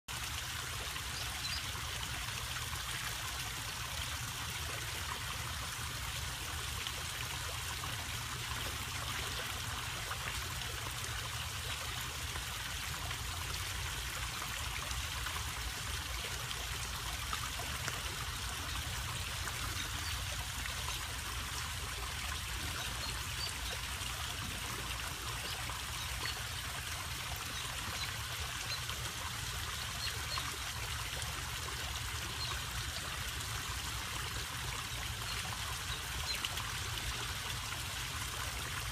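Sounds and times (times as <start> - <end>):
waterfall trickling into pond: 0.1 - 38.9.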